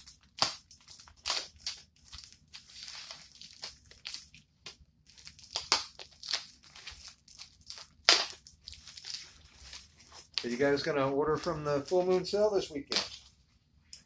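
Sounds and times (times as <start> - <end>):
sharp crackles of wrap: 0.0 - 13.3
packing wrap crinkling: 0.0 - 13.4.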